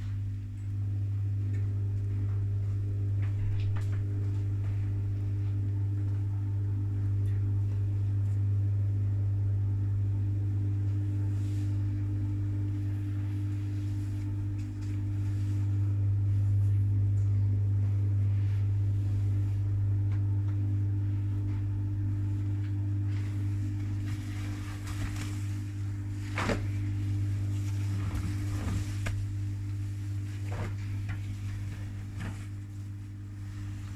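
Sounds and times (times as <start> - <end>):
washing machine motor hum: 0.0 - 33.9.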